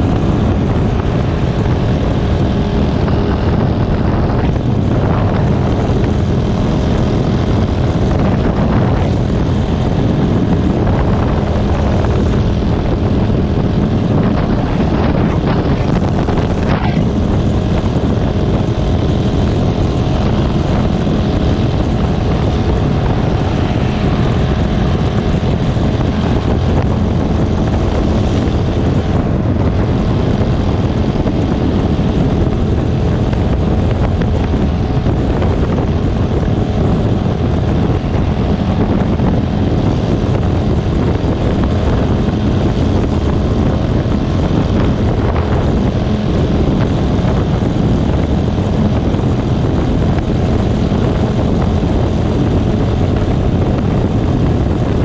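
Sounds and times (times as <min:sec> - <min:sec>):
moving vehicle drone: 0:00.0 - 0:55.0.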